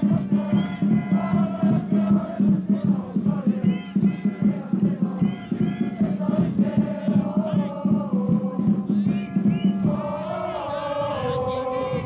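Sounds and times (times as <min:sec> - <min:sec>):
crowd singing a chant: 0:00.0 - 0:12.0
quick steady drum beat: 0:00.0 - 0:12.0.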